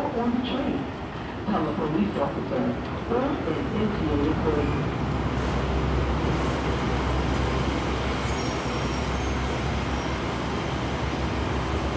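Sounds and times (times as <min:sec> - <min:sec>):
distant train rumbling on elevated track: 0:00.0 - 0:11.9.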